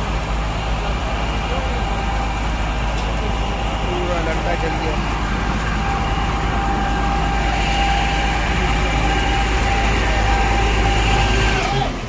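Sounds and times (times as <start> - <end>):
large engine rumbling: 0.0 - 12.0
steady high whine: 0.0 - 12.0.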